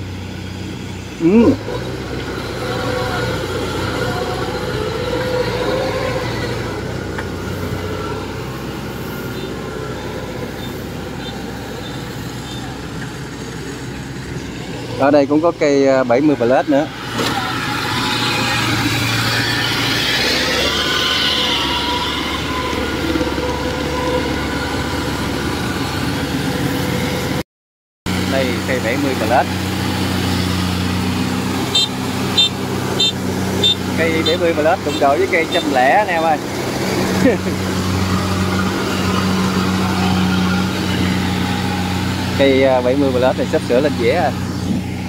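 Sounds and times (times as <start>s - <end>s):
diesel engine running under load: 0.0s - 27.4s, 28.1s - 45.0s.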